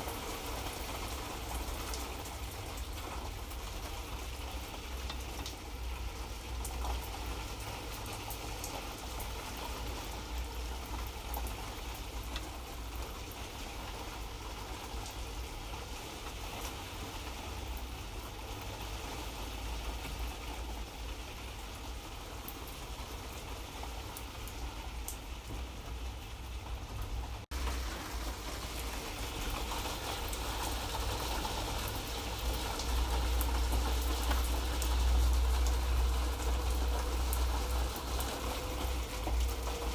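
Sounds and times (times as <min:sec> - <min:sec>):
light rain patter: 0:00.0 - 0:39.9.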